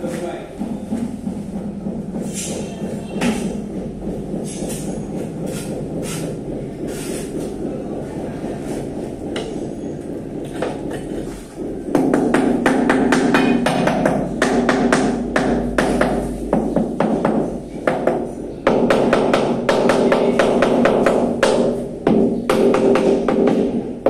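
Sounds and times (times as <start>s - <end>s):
machinery rumbling: 0.0s - 24.0s.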